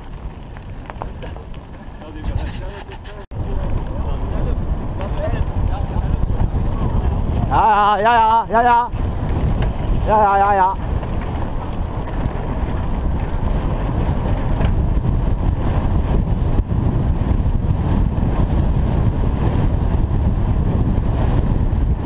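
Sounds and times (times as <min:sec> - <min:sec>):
bike rattling over rough track: 0:00.0 - 0:22.0
wind buffeting microphone: 0:00.0 - 0:22.0.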